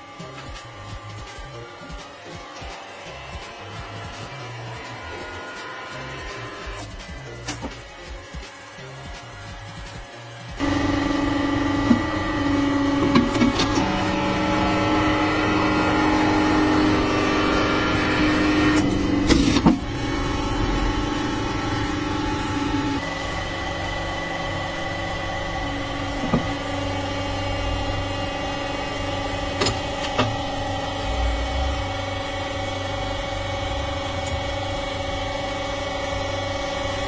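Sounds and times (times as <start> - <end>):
hydraulic press pump drone: 0.0 - 37.0.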